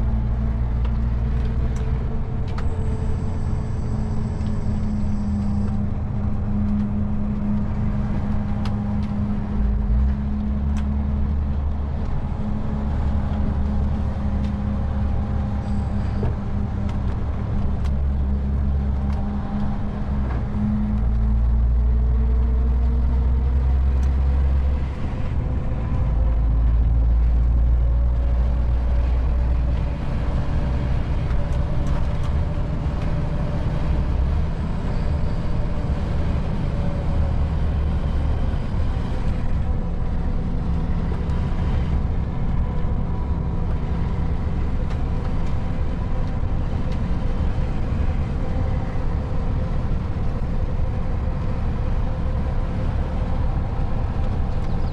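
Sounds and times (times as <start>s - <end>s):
road and tyre noise: 0.0s - 54.9s
truck diesel engine running: 0.0s - 54.9s.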